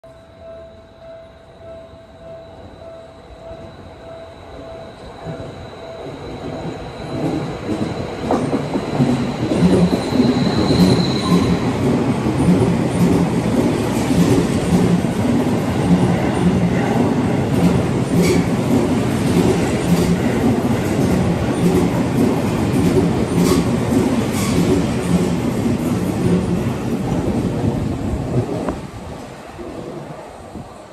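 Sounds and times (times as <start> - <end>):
electric train whine: 0.0 - 30.9
train rumbling past: 1.4 - 30.9.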